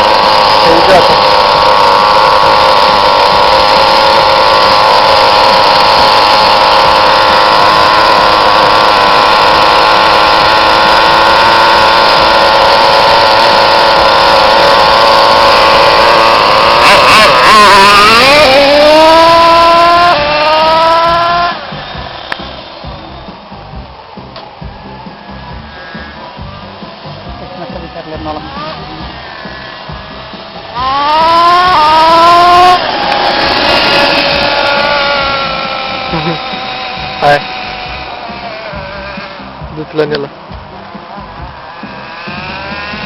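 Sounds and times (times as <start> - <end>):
small engines whining and revving: 0.0 - 43.0.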